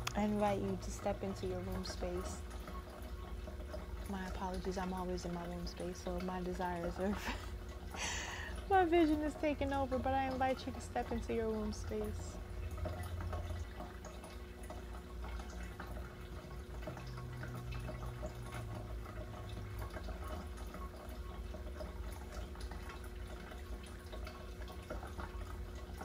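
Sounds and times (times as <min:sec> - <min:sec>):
water trickling and dripping: 0:00.0 - 0:26.0.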